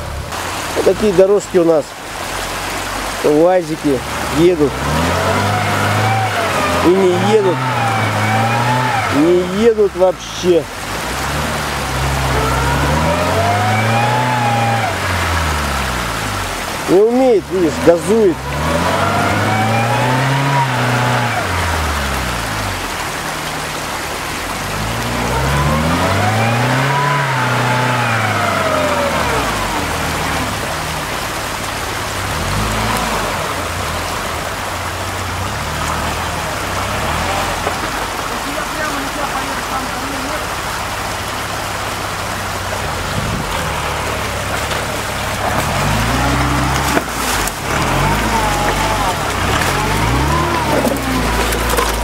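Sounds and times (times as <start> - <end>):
splashing water: 0.0 - 52.0
suv engine revving: 0.0 - 52.0
tyres hissing in mud: 0.0 - 52.0.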